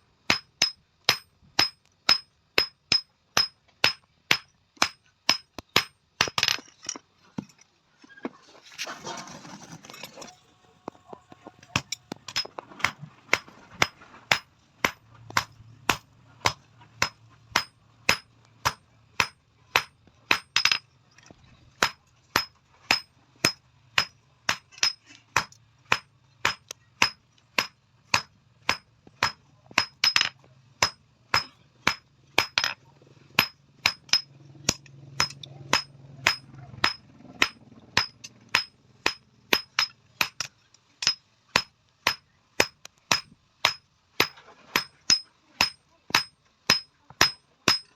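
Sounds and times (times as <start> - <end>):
hammer beating iron plate: 0.3 - 6.5, 11.8 - 20.8, 21.8 - 32.8, 33.4 - 47.9.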